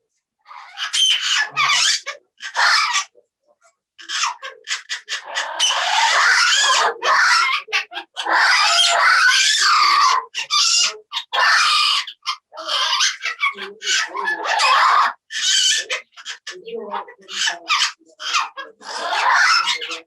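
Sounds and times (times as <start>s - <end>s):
parrot squawking: 0.5s - 3.1s, 4.0s - 20.0s.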